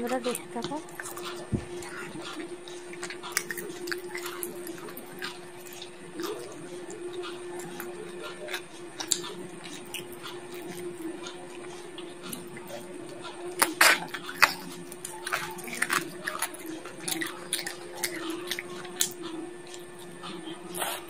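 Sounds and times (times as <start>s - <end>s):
steady low hum: 0.0s - 21.0s
teeth crunching bone: 0.1s - 21.0s.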